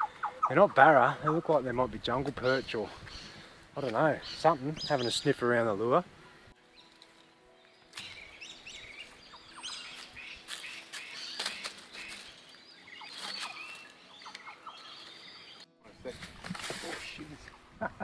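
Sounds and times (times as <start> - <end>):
small birds chirping: 0.0 - 15.7.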